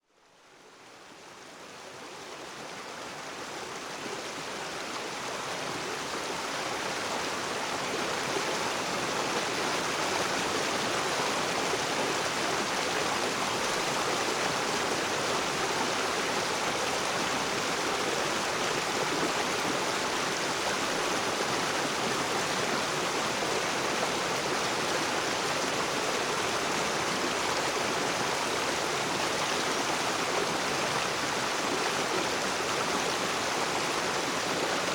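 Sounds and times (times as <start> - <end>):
river water rushing over rocks: 3.6 - 34.9.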